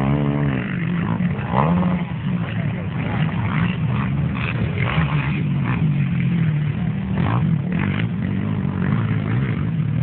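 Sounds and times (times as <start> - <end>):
racing engines revving: 0.0 - 10.0.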